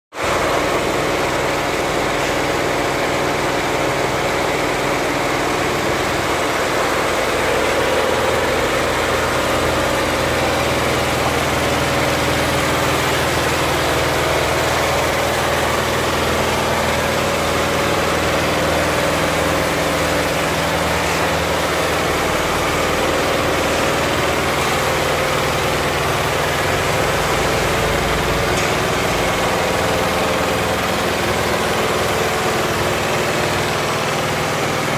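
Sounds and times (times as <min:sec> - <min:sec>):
embroidery machine running: 0:00.2 - 0:34.9.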